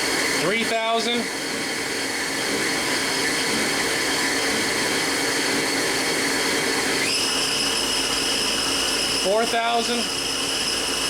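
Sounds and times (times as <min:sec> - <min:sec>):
machine spindle whine: 0:00.0 - 0:11.0.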